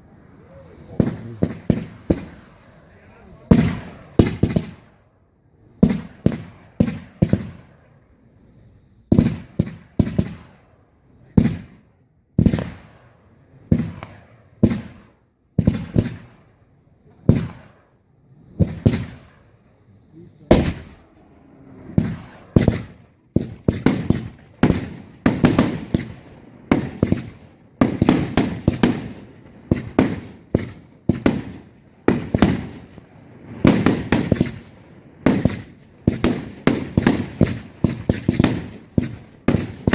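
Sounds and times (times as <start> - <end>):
fireworks bursting with sharp bangs: 0.0 - 39.9.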